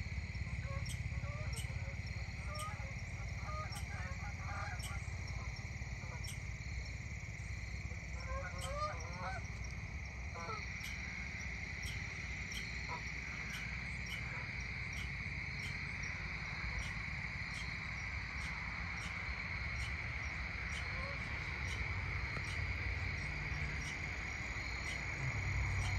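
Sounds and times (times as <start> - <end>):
crickets trilling: 0.0 - 25.9.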